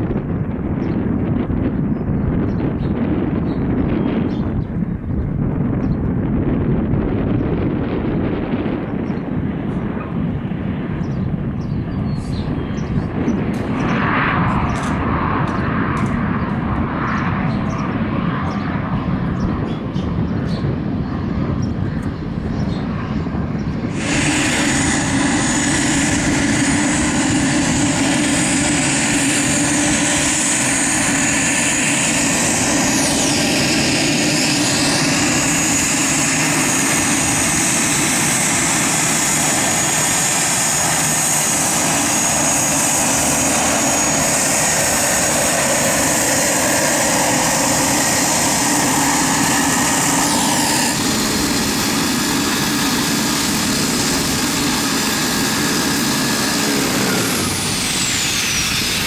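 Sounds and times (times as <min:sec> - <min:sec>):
distant airplane landing rumble: 0:00.0 - 0:59.0
turboprop whine and propeller drone: 0:00.0 - 0:59.0.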